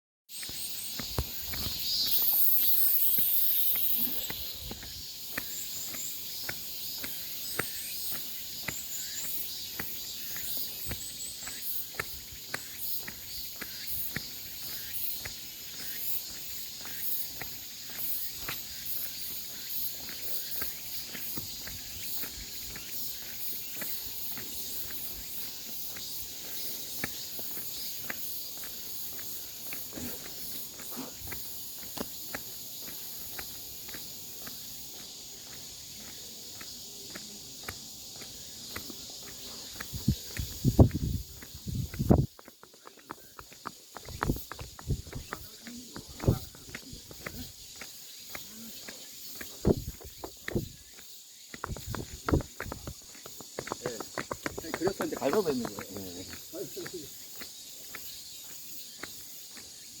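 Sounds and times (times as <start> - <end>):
footsteps walking: 0.3 - 60.0
insects chorus: 0.3 - 60.0.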